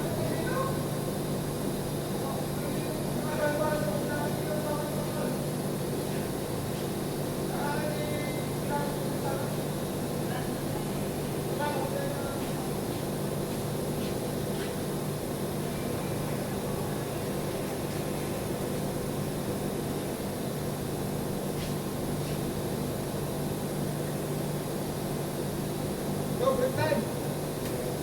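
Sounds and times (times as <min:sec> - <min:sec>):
machine hum with hiss: 0:00.0 - 0:28.0.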